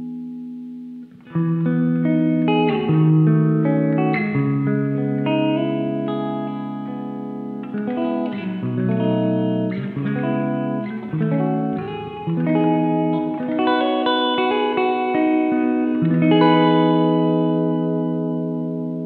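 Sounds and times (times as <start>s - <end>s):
electric guitar with spring reverb: 0.0s - 19.0s.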